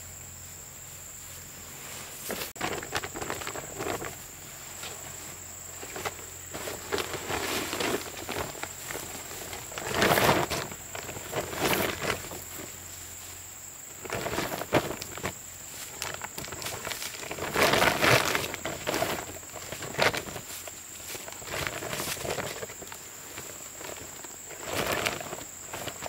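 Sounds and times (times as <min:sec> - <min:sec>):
rustling and knocking: 0:02.0 - 0:13.0, 0:14.0 - 0:26.0.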